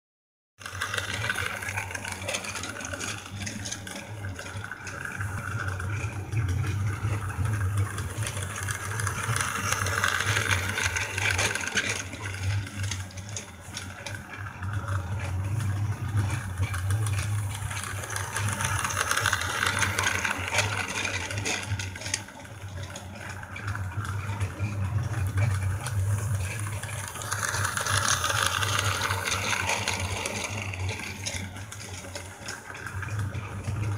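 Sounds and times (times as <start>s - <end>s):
toy train motor whirring: 0.6s - 33.9s
toy train wheels rattling: 0.6s - 33.9s.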